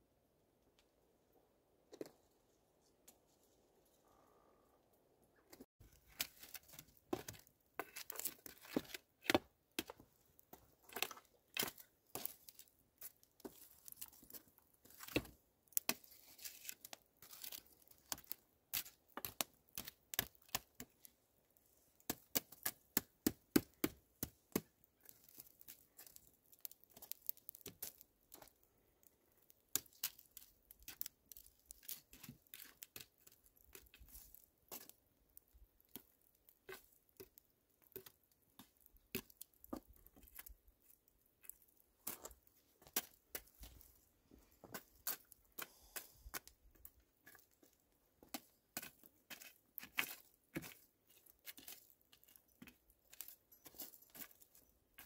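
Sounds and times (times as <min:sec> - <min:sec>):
wood fire crackling: 0:05.8 - 0:55.0
stick poking burning wood: 0:05.9 - 0:21.2, 0:22.0 - 0:43.9, 0:44.6 - 0:54.4.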